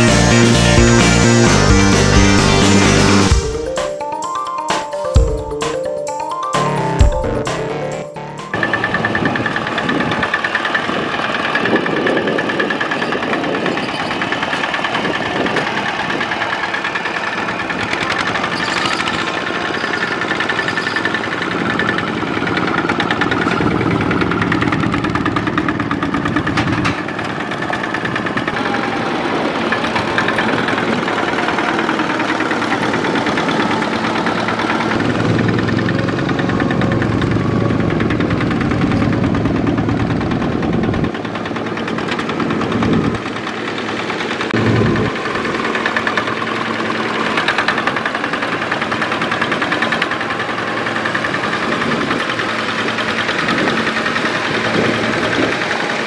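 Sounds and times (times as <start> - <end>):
diesel engine chugging: 0.0 - 56.0.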